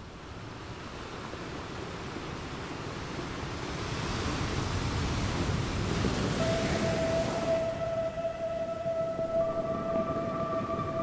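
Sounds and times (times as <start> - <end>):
sea waves washing: 1.2 - 11.0.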